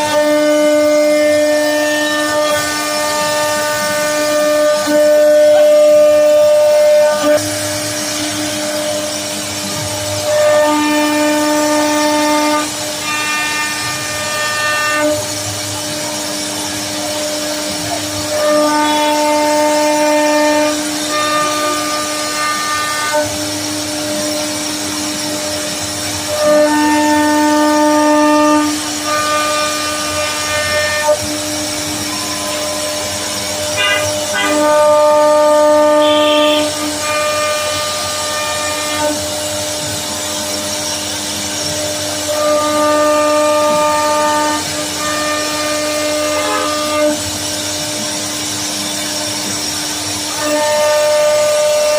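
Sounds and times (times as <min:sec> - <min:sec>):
wood router spindle whining: 0:00.0 - 0:51.9.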